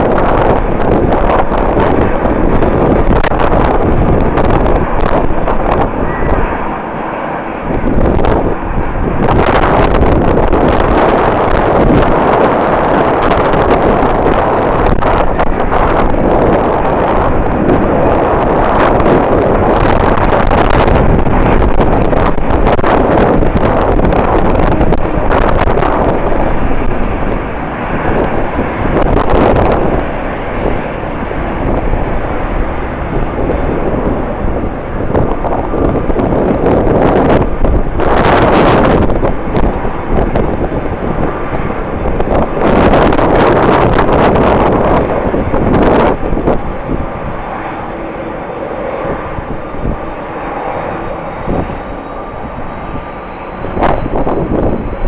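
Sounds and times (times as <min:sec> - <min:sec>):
jet airliner engine: 0:00.0 - 0:55.0
wind buffeting microphone: 0:00.0 - 0:55.0.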